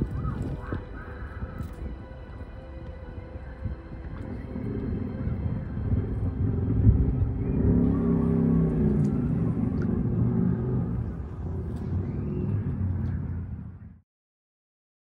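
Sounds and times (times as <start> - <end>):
low rumble of passing vehicle: 0.0 - 14.0.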